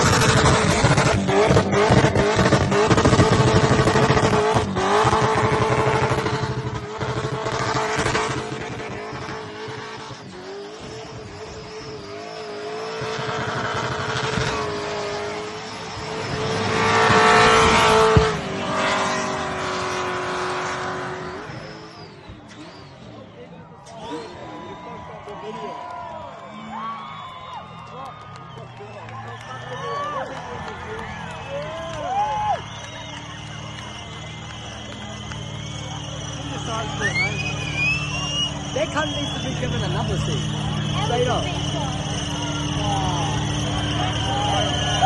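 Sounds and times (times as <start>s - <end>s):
car engine at high revs: 0.0s - 45.0s.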